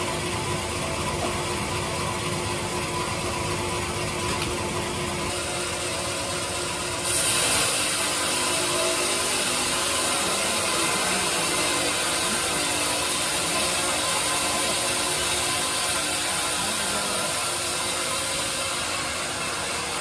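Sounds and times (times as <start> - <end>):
band sawmill humming: 0.0 - 20.0.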